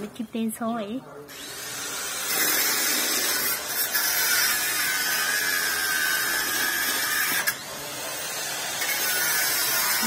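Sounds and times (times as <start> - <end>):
power tool whining: 1.3 - 10.0.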